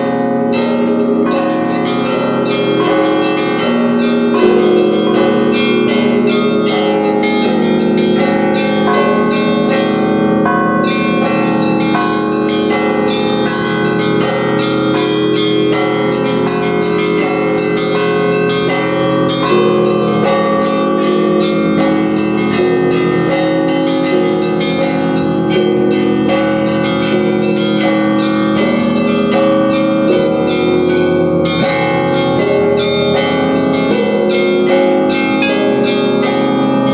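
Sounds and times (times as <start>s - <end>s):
church bells pealing: 0.0s - 36.9s.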